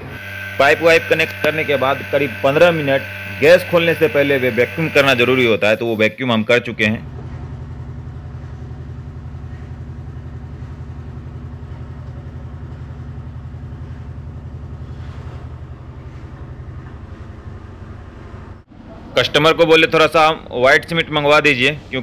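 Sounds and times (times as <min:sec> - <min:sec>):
vacuum pump humming and chugging: 0:00.0 - 0:06.0, 0:07.0 - 0:19.2.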